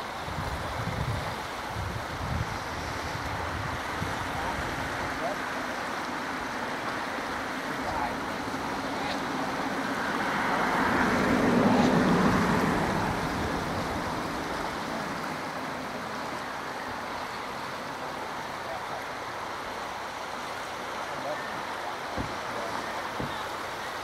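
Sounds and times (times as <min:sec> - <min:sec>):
fast-flowing river rushing: 0:00.0 - 0:24.0.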